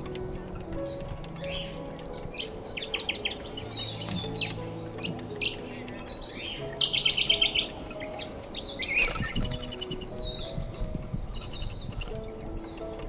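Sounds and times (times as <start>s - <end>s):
birds chirping and trilling: 0.0s - 13.0s
soft background music: 0.0s - 13.0s.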